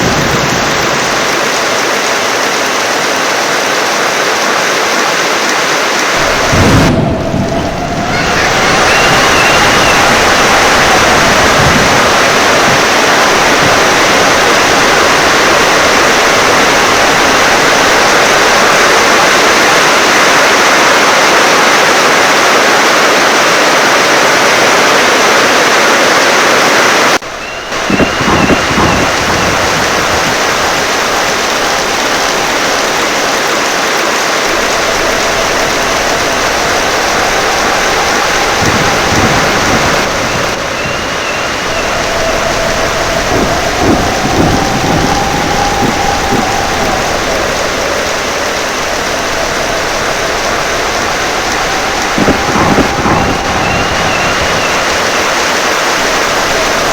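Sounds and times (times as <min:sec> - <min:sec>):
low rumble of thunder: 0:00.0 - 0:02.8, 0:06.1 - 0:20.1, 0:27.2 - 0:56.9
heavy rain: 0:00.0 - 0:56.9
wind: 0:00.0 - 0:56.9.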